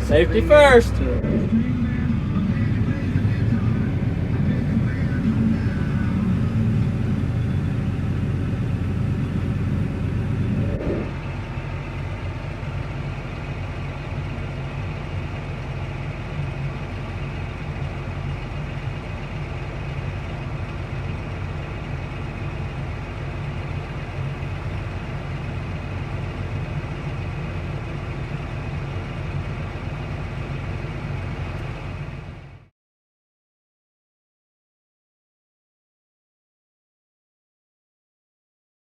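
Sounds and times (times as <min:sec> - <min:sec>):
tractor engine running: 0:00.0 - 0:32.7.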